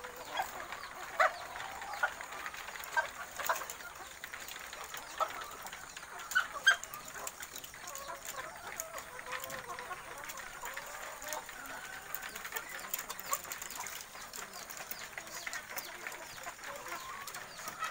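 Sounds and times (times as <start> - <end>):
hens clucking: 0.0 - 17.9.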